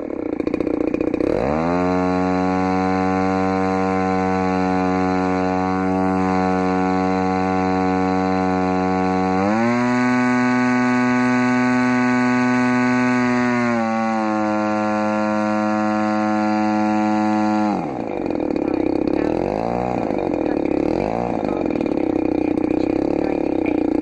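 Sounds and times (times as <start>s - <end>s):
two-stroke engine turning propeller: 0.0s - 24.0s.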